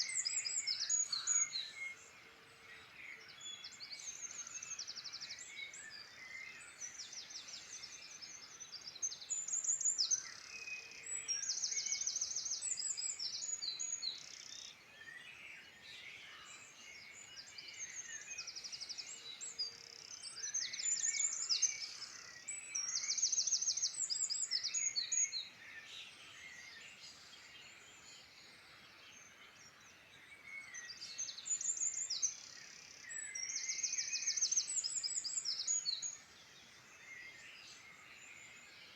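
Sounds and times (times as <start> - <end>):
birds chirping and warbling: 0.0 - 38.9.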